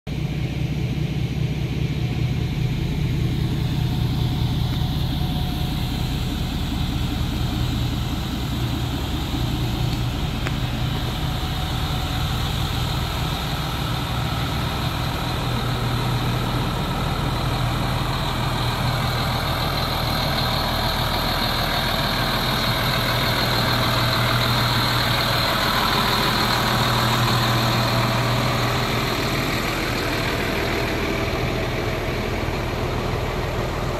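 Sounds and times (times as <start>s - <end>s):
fire engine idling: 0.1s - 33.9s.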